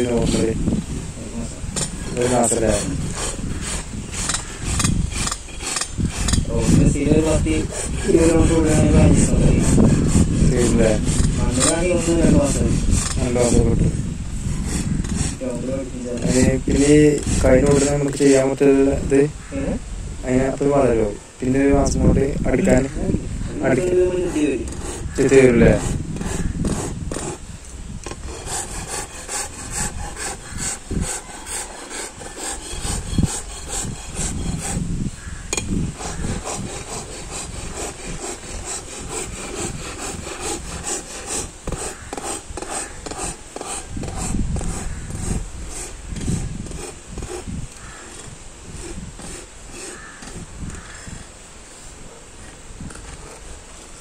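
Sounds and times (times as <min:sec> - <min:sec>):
hoof rasp scraping: 0:00.0 - 0:00.8, 0:01.4 - 0:19.1, 0:23.5 - 0:54.0.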